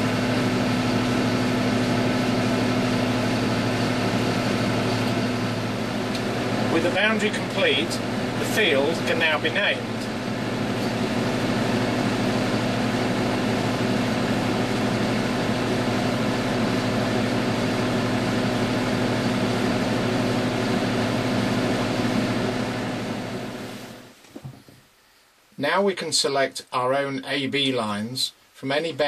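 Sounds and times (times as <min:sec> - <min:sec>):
crop sprayer machine drone: 0:00.0 - 0:24.1.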